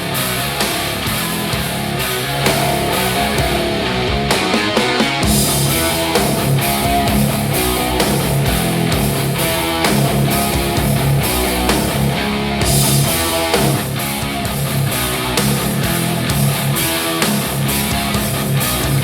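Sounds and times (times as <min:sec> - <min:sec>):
instrumental rock music: 0:00.0 - 0:19.0.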